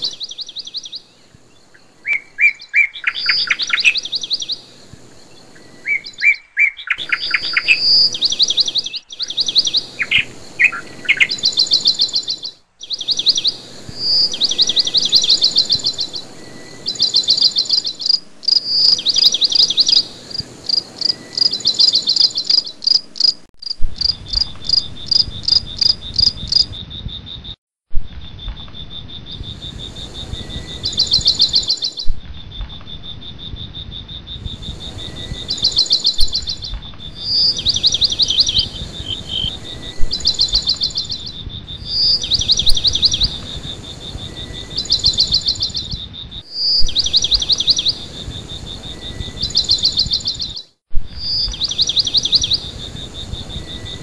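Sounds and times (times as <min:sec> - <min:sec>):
high insect drone: 0:00.0 - 0:06.3, 0:07.0 - 0:27.4, 0:28.1 - 0:50.6, 0:51.2 - 0:54.0
birds chirping trills: 0:00.0 - 0:27.6, 0:28.3 - 0:54.0.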